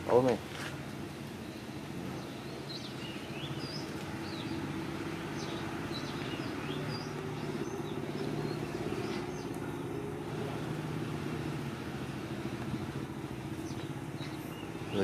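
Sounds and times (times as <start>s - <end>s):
small birds chirping: 0.0s - 15.0s
low engine hum: 0.8s - 15.0s.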